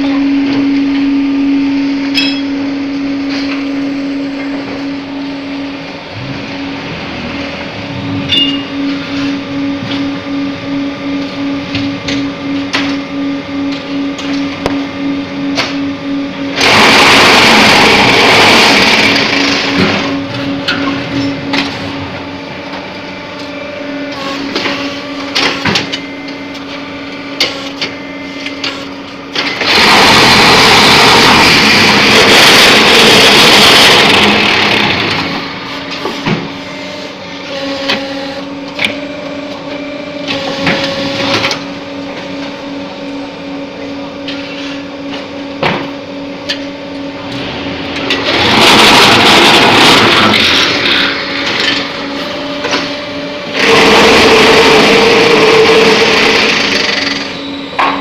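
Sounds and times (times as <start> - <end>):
machine motor hum: 0.0 - 58.0.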